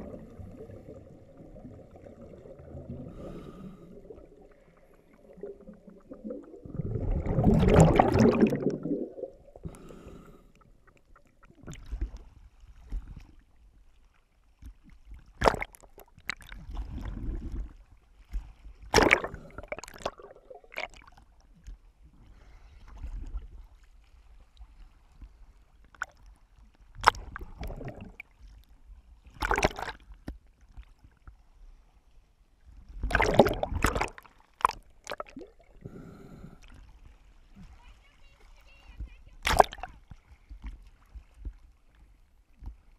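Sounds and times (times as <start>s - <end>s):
muffled water splashing: 0.0s - 42.9s.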